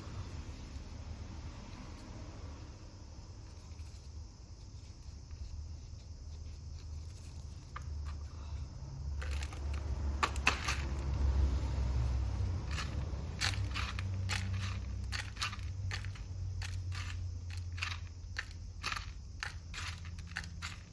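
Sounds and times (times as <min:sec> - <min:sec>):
potting mix scraping and crunching: 0:03.6 - 0:20.9.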